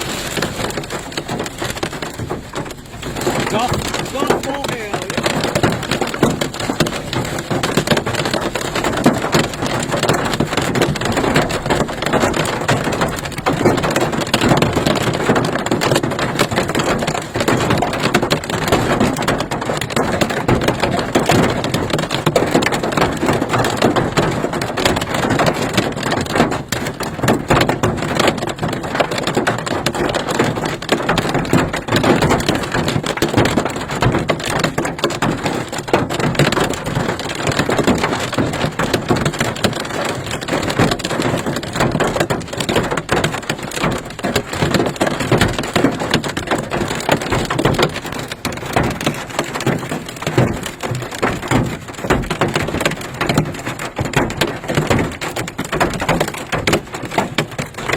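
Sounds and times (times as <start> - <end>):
hailstones hitting car body and glass: 0.0 - 57.9.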